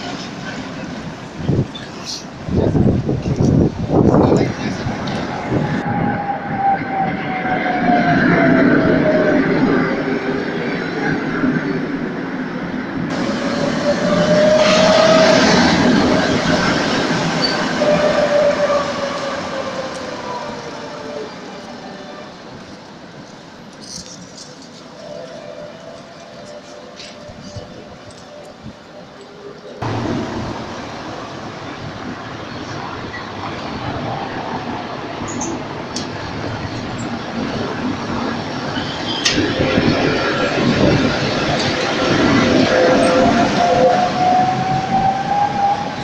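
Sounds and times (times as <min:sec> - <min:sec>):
tram passing on rails: 0:00.0 - 0:46.0.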